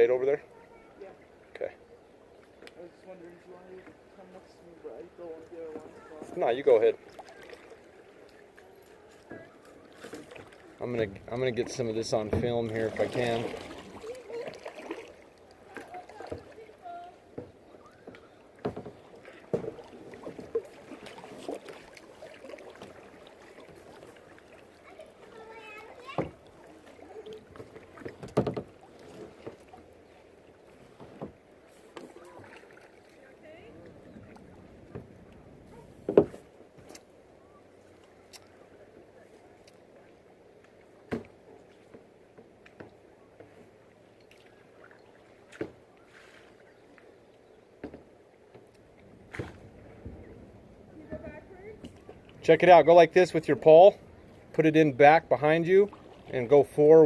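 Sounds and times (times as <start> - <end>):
paddle splashing in water: 3.5 - 57.0.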